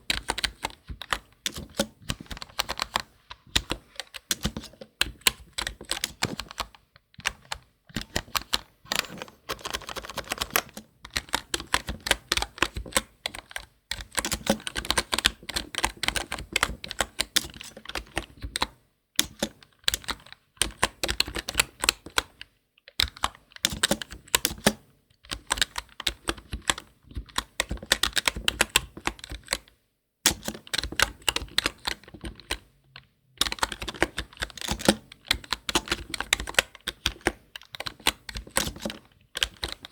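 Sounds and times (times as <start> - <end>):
keyboard typing: 0.0 - 22.4, 23.0 - 29.7, 30.3 - 39.9.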